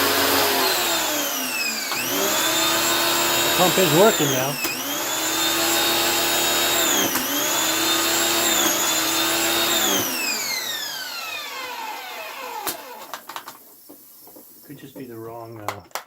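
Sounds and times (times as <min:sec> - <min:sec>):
pressure washer whining: 0:00.0 - 0:15.0.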